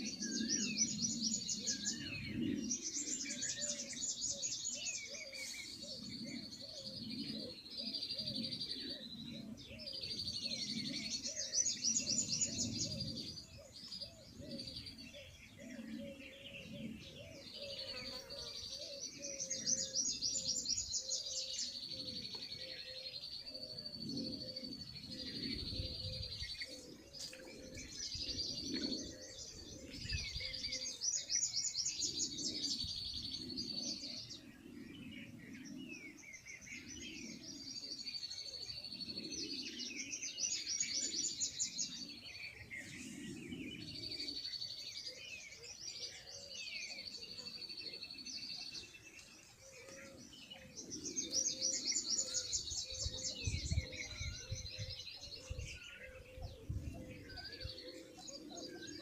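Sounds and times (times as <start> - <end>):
lower bird calls: 0.0 - 59.0
small birds singing: 0.0 - 59.0.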